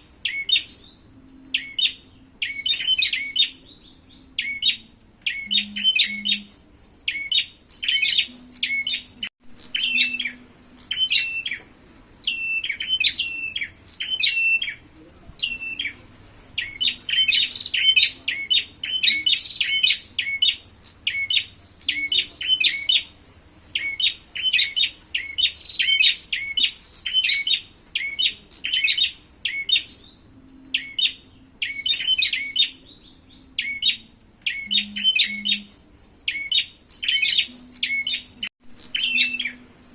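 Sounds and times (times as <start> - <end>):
birds chirping sharply: 0.0 - 39.9.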